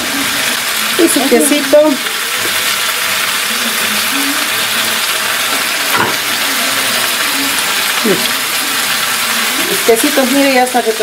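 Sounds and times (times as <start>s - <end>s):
meat sizzling on hot metal: 0.0s - 11.0s.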